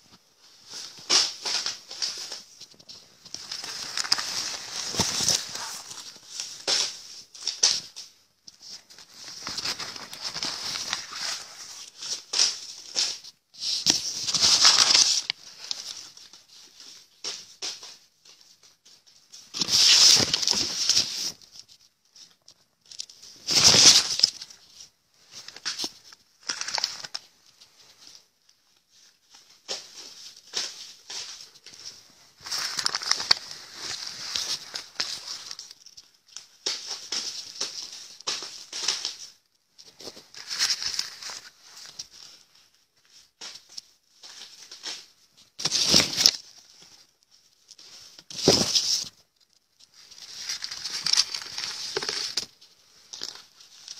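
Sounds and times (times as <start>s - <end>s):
banknotes rustling and crinkling: 0.0s - 53.9s.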